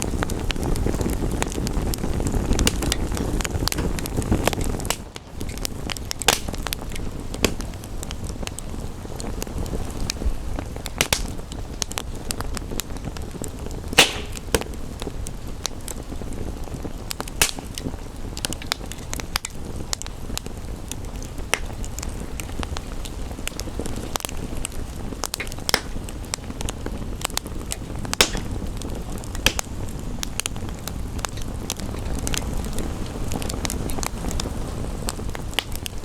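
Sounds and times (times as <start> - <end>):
gentle rain: 0.0 - 36.0
wood fire crackling and popping: 0.0 - 36.0.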